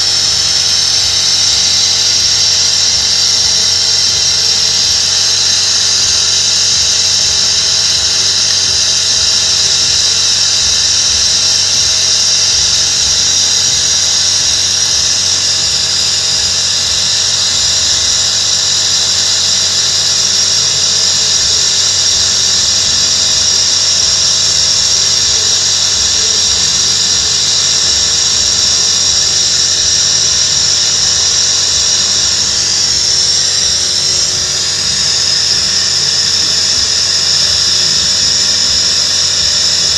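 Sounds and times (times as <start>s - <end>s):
air hissing through carburetor: 0.0s - 39.9s.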